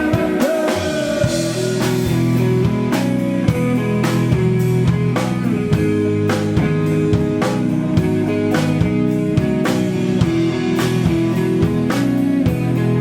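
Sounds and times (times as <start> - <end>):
drum and cymbal hits: 0.0 - 13.0
rock band playing live: 0.0 - 13.0.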